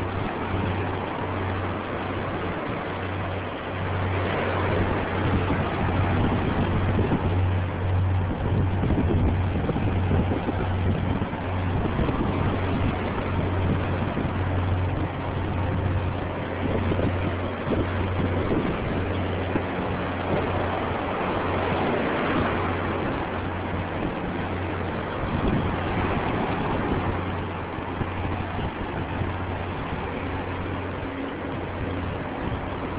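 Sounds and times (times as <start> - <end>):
ocean surf washing against rocks: 0.0 - 32.9.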